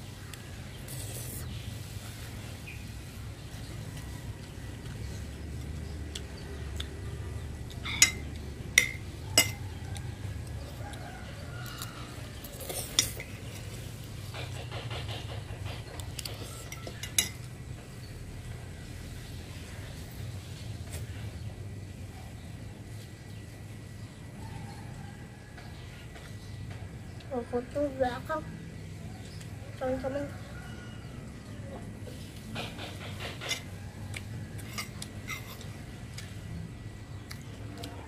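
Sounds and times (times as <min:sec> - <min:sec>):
low background hum: 0:00.0 - 0:38.0.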